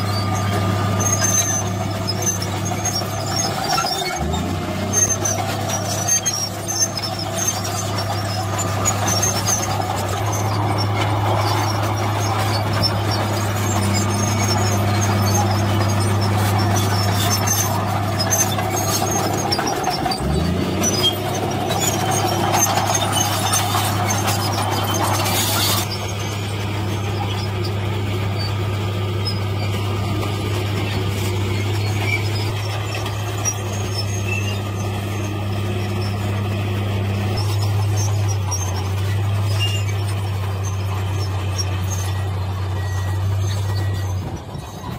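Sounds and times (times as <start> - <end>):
bulldozer diesel engine running: 0.0 - 44.9
dump truck engine running: 0.0 - 44.9
steel tracks squeaking and clanking: 0.0 - 44.9.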